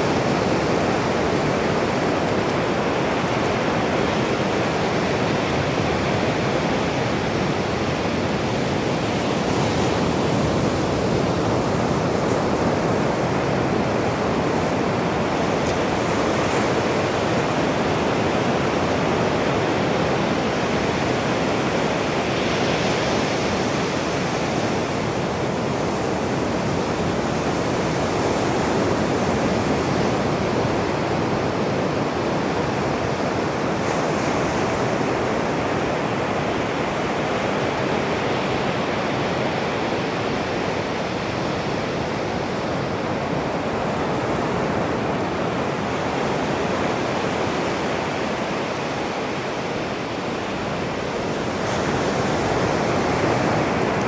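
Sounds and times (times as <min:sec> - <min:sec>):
ocean surf breaking: 0:00.0 - 0:54.0.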